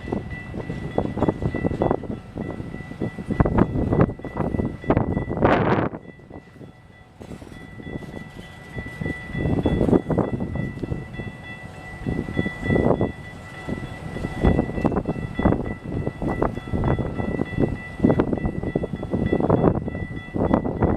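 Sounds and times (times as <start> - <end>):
steady high ringing tone: 0.0 - 20.9.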